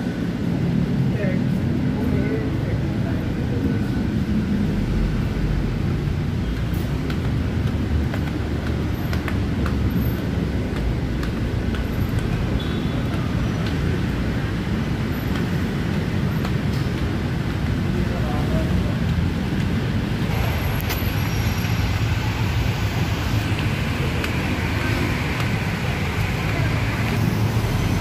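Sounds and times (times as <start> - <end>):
city road traffic rumble: 0.0 - 28.0.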